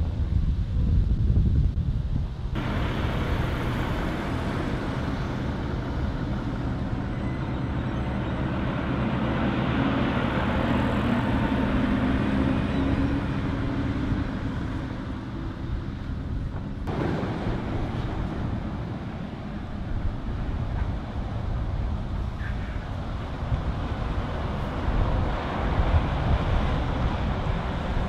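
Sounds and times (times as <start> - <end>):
tyre noise from road: 2.5 - 28.0
lorries passing close by: 2.6 - 28.0.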